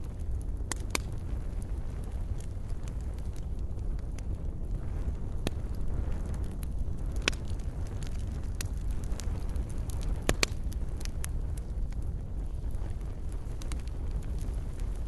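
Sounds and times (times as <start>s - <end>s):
fire crackling and popping: 0.0s - 15.0s
wood fire burning: 0.0s - 15.0s.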